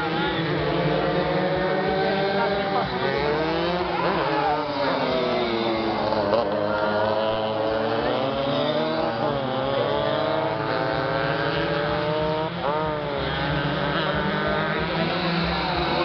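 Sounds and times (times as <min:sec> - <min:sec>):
racing motorcycle engines: 0:00.0 - 0:16.0.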